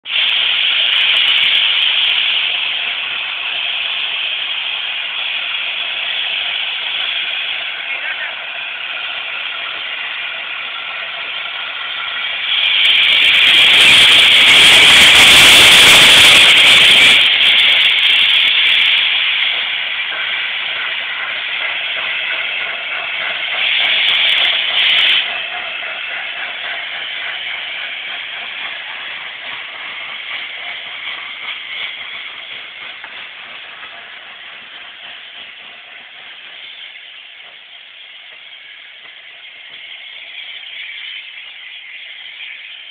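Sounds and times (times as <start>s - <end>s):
steam locomotive drain cocks hissing: 0.0s - 42.9s
train rolling past: 0.0s - 42.9s.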